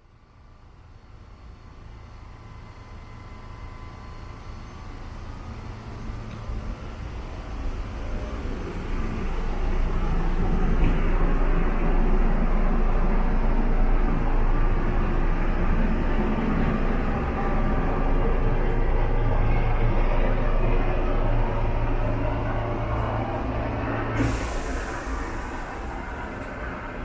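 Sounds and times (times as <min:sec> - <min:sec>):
railcar low hum and rumble: 0:00.0 - 0:27.0.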